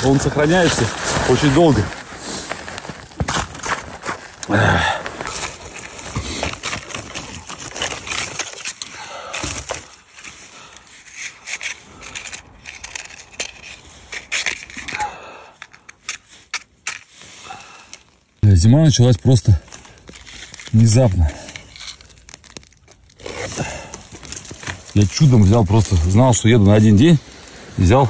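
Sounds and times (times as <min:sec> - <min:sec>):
dry twigs snapping and rustling: 0:00.0 - 0:18.4, 0:19.6 - 0:27.8.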